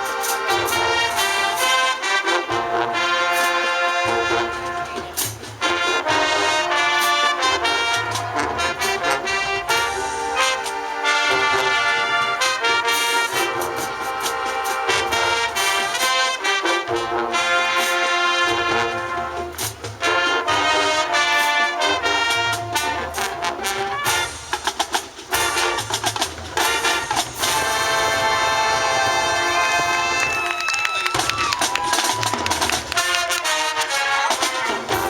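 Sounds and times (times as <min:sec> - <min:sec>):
drums: 0:00.0 - 0:35.0
marching band brass: 0:00.0 - 0:35.0.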